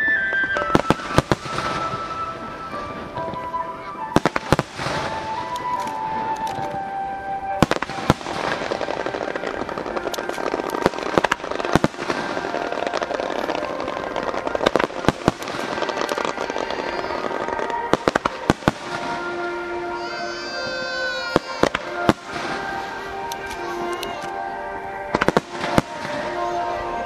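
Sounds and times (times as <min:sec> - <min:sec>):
fireworks bangs and crackling: 0:00.0 - 0:27.0
music over loudspeakers: 0:00.0 - 0:27.0.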